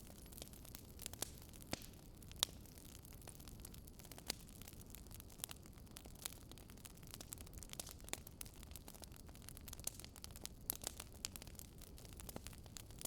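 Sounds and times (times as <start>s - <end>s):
campfire crackling: 0.0s - 13.0s
low steady fire rumble: 0.0s - 13.0s.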